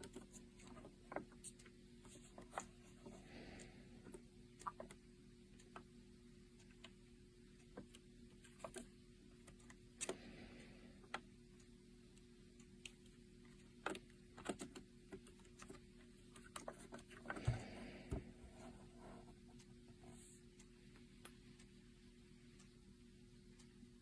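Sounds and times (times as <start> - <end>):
faint irregular clicks and taps: 0.0 - 21.7
low steady hum: 0.0 - 24.0.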